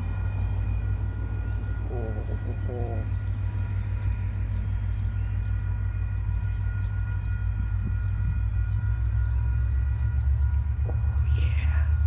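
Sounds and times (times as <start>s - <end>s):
diesel locomotive engine rumble: 0.0s - 12.0s
faint steady whine: 0.0s - 12.0s.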